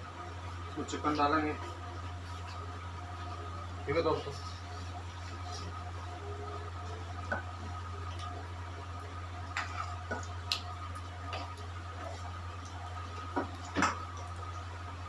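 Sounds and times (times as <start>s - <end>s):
chicken frying in hot oil: 0.0s - 15.0s
low hum: 0.0s - 15.0s.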